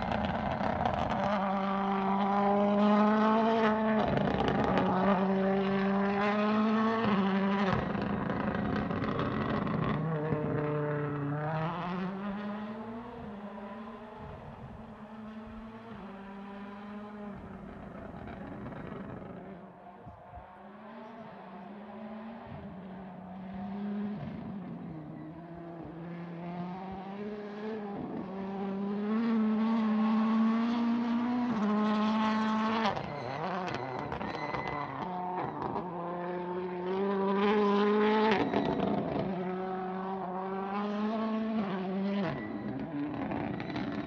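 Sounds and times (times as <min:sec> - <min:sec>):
rally car engine at high revs: 0:00.0 - 0:44.0.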